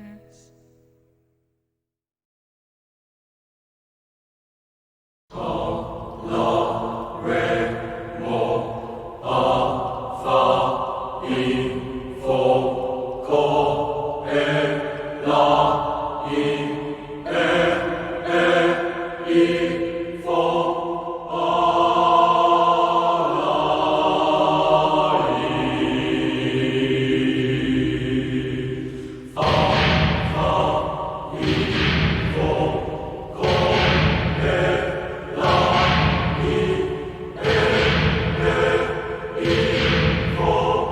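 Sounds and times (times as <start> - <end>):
chant-like vocal music: 0.0 - 0.6, 5.3 - 40.9.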